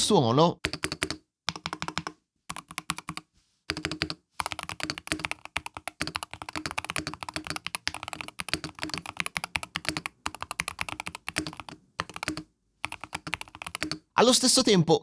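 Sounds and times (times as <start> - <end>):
fast typing on mechanical keyboard: 0.6 - 14.1.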